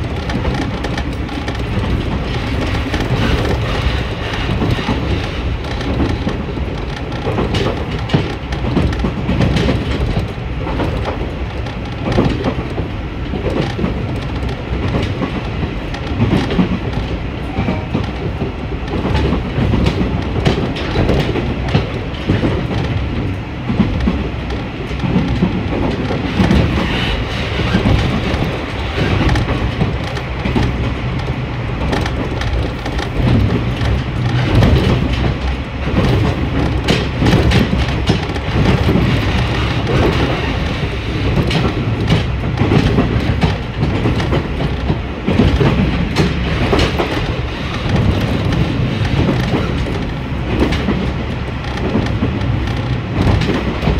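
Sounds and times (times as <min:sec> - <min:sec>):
train running rumble: 0:00.0 - 0:53.9
wheels clicking over rail joints: 0:00.0 - 0:53.9.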